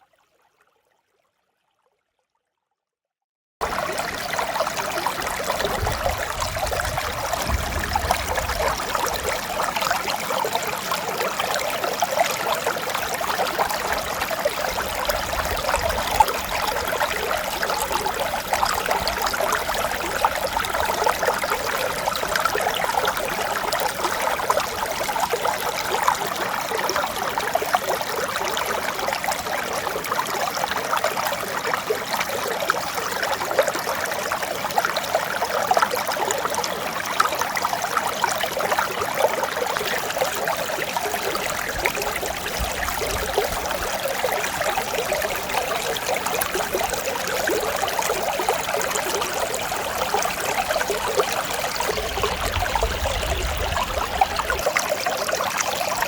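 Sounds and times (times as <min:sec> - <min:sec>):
mountain stream flowing: 0:03.6 - 0:56.0.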